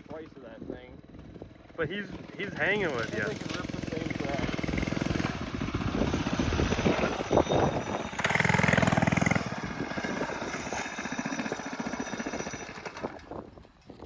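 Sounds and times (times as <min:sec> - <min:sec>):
minibike engines running: 0:00.0 - 0:14.0.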